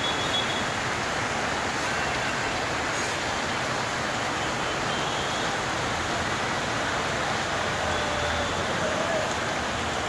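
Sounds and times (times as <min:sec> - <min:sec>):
heavy rain pouring: 0:00.0 - 0:10.0
road traffic: 0:00.0 - 0:10.0.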